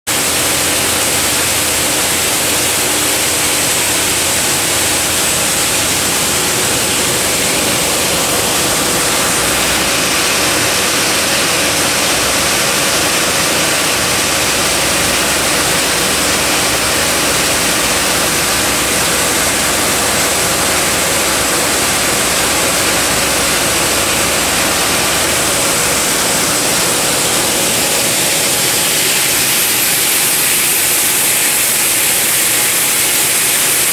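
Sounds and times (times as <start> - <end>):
faint machine hum: 0.1 - 33.9
moulding machine hissing: 0.2 - 33.9.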